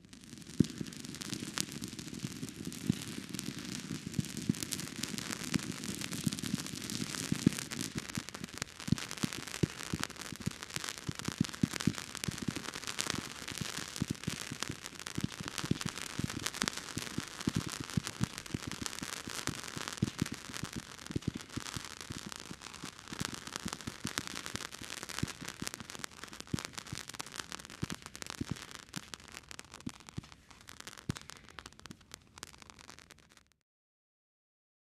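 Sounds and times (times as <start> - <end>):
fireworks crackling: 0.0 - 33.6.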